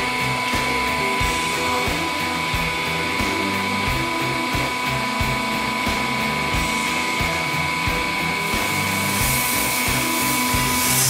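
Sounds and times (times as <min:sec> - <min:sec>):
background music with steady beat: 0:00.0 - 0:11.0
hydraulic press motor whine: 0:00.0 - 0:11.0.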